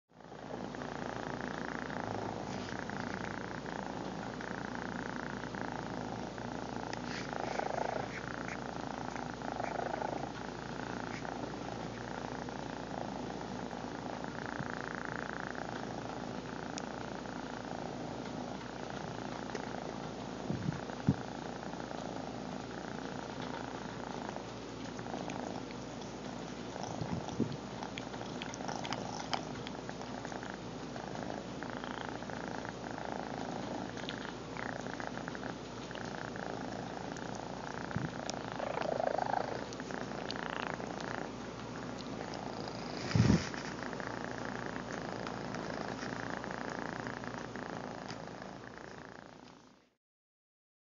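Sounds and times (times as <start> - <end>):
cat purring: 0.2 - 49.8.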